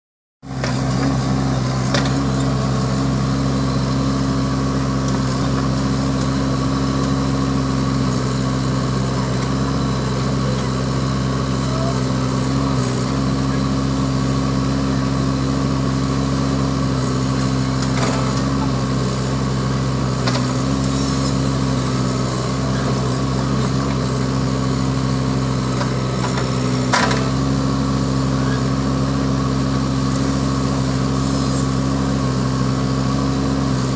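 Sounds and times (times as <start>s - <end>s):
excavator diesel engine running: 0.4s - 33.9s.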